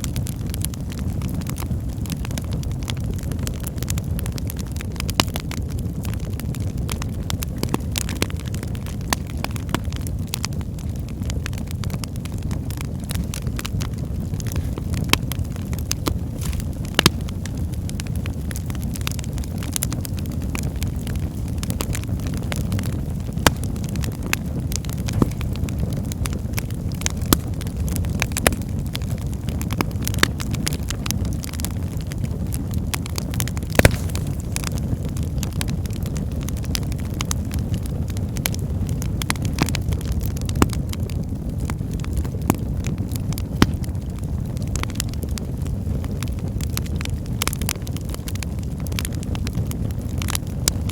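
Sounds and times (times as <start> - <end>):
fire crackles and pops: 0.0 - 50.9
fire rumbling: 0.0 - 50.9.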